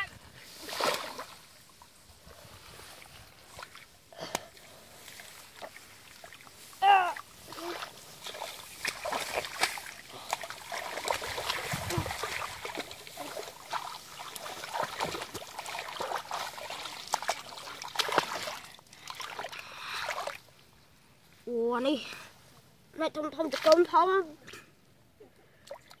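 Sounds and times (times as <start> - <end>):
muddy water sloshing and splashing: 0.0 - 20.8, 23.1 - 24.7, 25.5 - 26.0.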